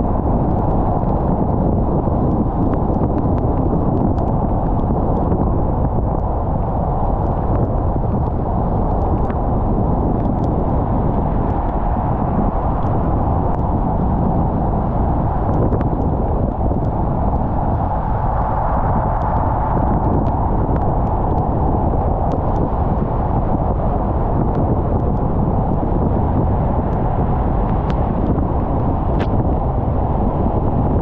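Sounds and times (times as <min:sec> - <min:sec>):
faint rain ticks: 0:00.0 - 0:29.4
car road and engine rumble: 0:00.0 - 0:31.0.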